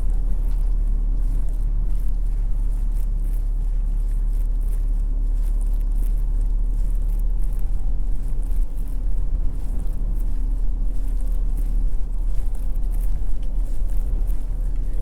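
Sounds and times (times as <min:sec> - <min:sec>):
distant traffic: 0:00.0 - 0:15.0
faint steady hum: 0:00.0 - 0:15.0
wind: 0:00.0 - 0:15.0.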